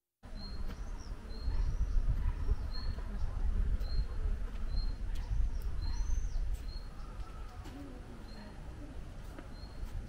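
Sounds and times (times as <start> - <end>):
small bird chirping: 0.3 - 8.6, 9.5 - 10.0.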